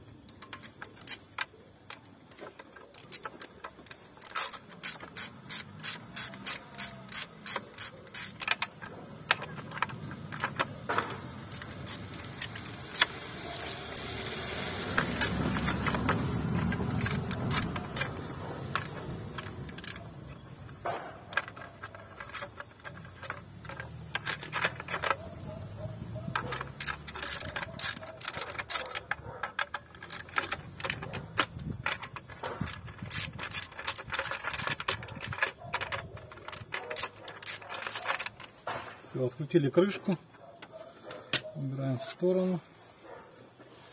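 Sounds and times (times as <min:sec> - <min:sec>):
ratchet wrench clicking: 0:00.0 - 0:38.7.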